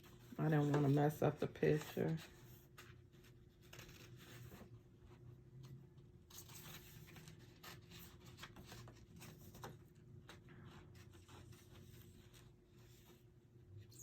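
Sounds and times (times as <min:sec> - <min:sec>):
paper rustling: 0:00.0 - 0:13.4
low room hum: 0:00.0 - 0:14.0.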